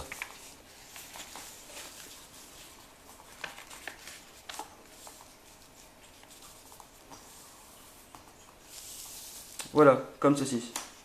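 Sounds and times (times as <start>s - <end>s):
paper folding and crinkling: 0.0s - 9.7s.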